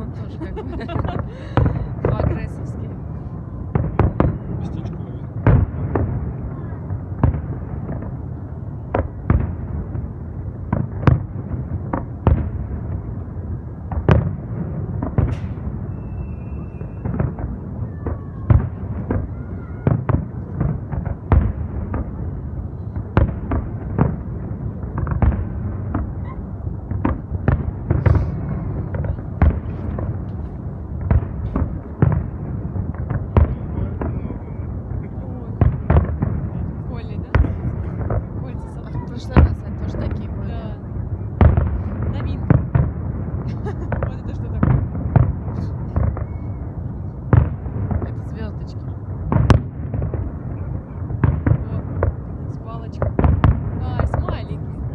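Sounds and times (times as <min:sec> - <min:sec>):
steady low rumble: 0:00.0 - 0:16.5, 0:20.3 - 0:54.9.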